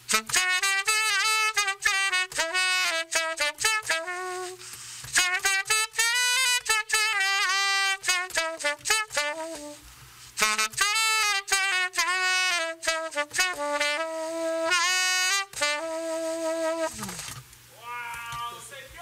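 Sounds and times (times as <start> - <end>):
tenor saxophone solo: 0.0 - 17.4.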